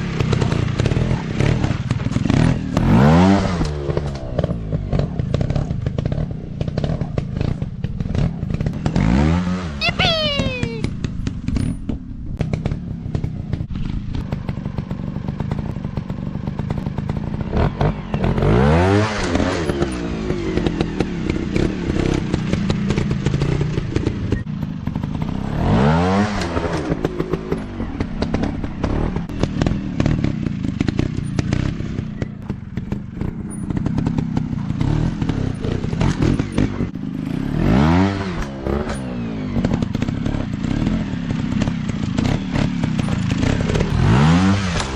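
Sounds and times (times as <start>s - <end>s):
dirt bike engines running: 0.0s - 44.9s.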